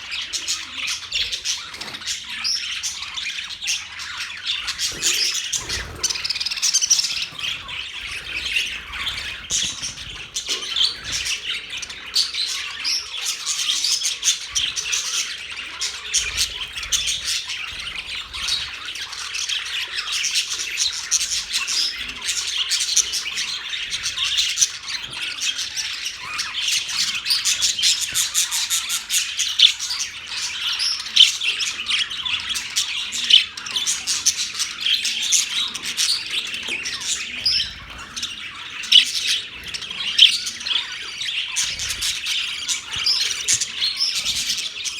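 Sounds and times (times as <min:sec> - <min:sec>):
budgerigars chattering and squawking: 0:00.0 - 0:44.9.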